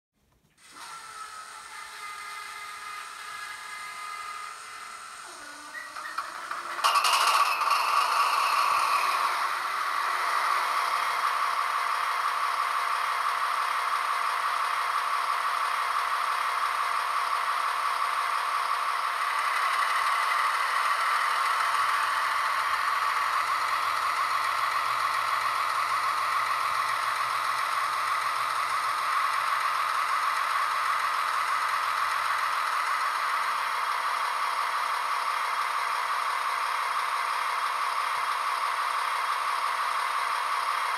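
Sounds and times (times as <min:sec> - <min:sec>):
model locomotive whining hum: 0:00.5 - 0:40.9
diesel engine sound from small speaker: 0:00.6 - 0:40.9.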